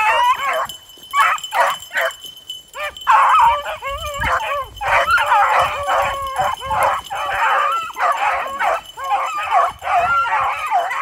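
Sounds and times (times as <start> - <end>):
hounds baying and yipping: 0.0 - 11.0.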